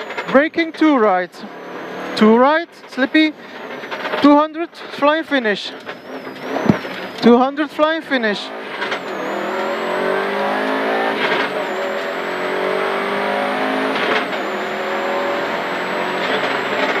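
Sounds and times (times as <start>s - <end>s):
car engine accelerating with upshifts: 0.0s - 17.0s.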